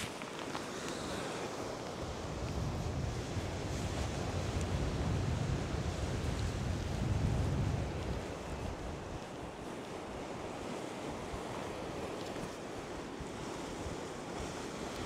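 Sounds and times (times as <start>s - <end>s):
waves washing against rocks: 0.0s - 15.0s
wind on microphone: 1.0s - 15.0s.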